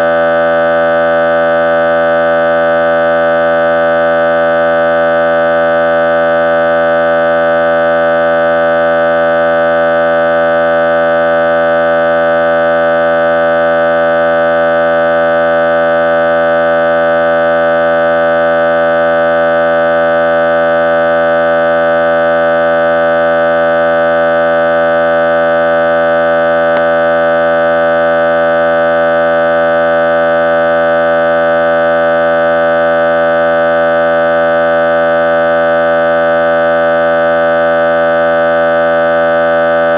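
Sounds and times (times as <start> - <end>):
loud steady buzzing tone: 0.0 - 39.9.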